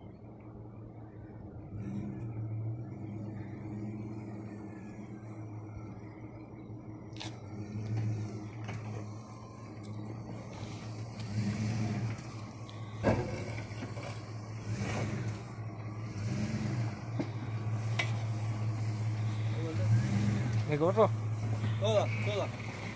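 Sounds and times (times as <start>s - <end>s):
engine revving: 1.6s - 6.0s, 7.2s - 22.9s.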